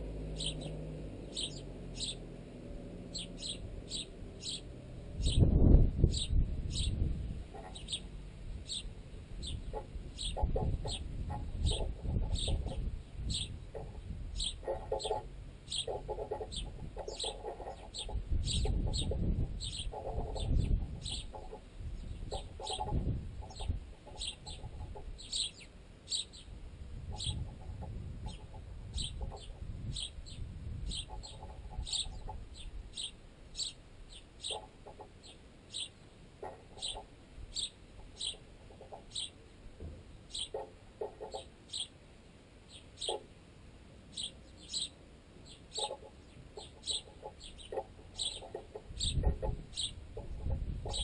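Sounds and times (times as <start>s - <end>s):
sparrow chirping: 0.0s - 39.5s, 40.2s - 42.0s, 42.7s - 43.3s, 44.1s - 51.0s
sparrows pecking rapid tapping: 0.3s - 2.2s, 3.1s - 26.5s, 27.1s - 39.5s, 40.3s - 41.9s, 42.8s - 43.3s, 44.1s - 51.0s.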